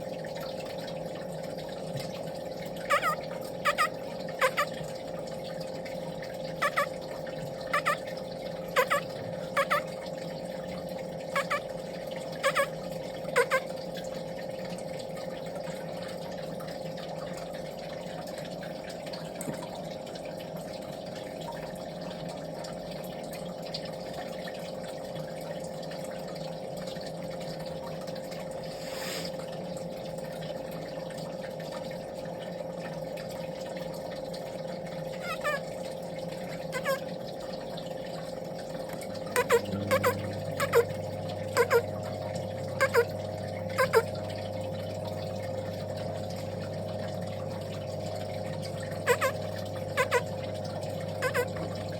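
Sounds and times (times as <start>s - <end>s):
steady hum with watery hiss: 0.0s - 51.9s.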